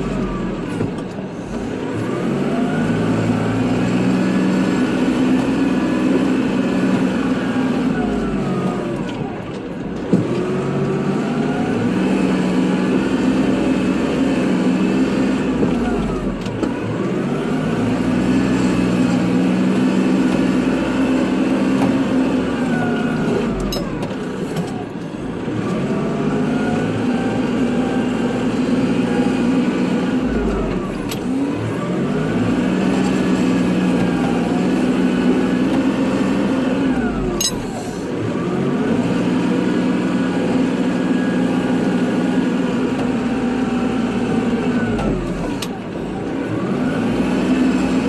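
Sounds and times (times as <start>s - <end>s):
tractor engine running under load: 0.0s - 48.0s.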